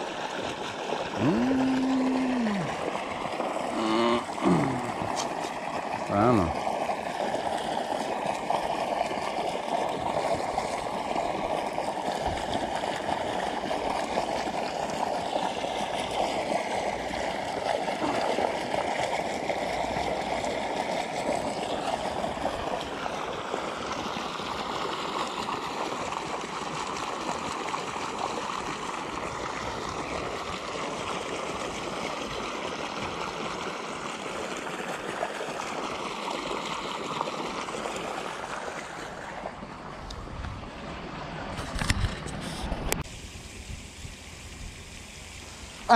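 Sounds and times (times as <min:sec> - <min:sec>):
water gushing from pipe into pond: 0:00.0 - 0:45.9.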